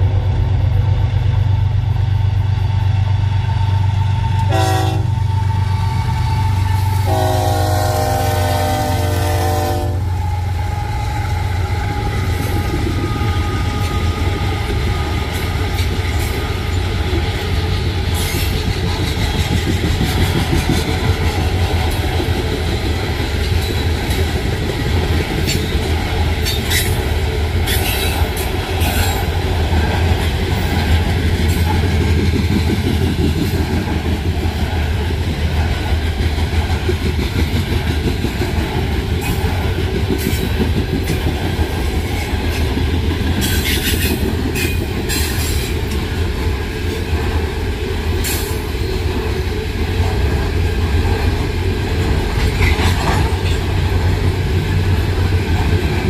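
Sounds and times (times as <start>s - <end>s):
steel train wheels rumbling on rail: 0.0s - 56.0s.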